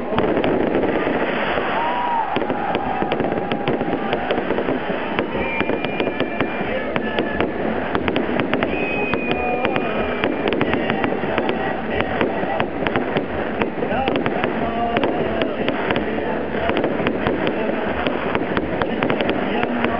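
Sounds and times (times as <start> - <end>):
dense rumble: 0.0 - 19.9
firework whistles: 0.0 - 19.9
fireworks crackling and banging: 0.0 - 19.9.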